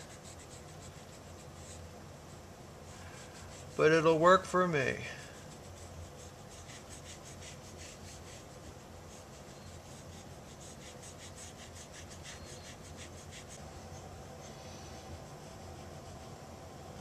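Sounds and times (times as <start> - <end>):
cotton swab rubbing on paper: 0.0 - 1.9, 2.9 - 4.0, 5.2 - 16.5.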